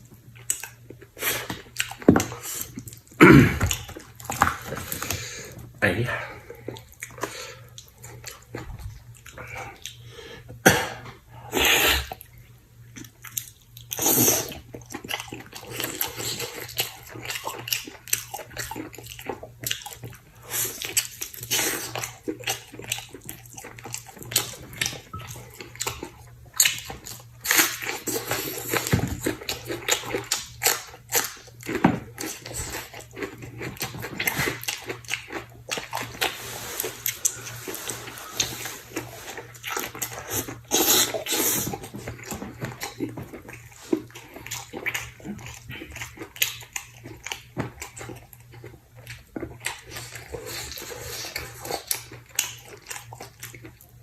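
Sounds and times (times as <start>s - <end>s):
person chewing and slurping: 0.4s - 53.9s.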